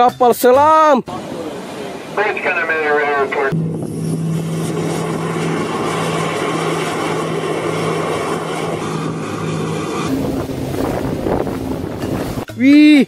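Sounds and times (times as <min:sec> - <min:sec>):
engine hum: 0:01.1 - 0:12.6
rushing sea and spray: 0:01.1 - 0:12.6.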